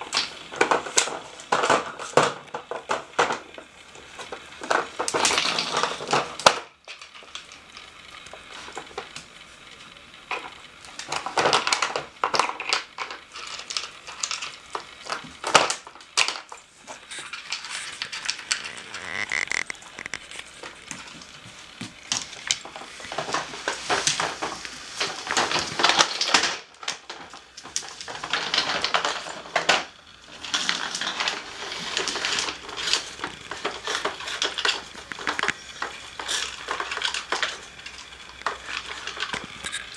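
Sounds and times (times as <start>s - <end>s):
plastic puzzle clattering: 0.0s - 39.9s.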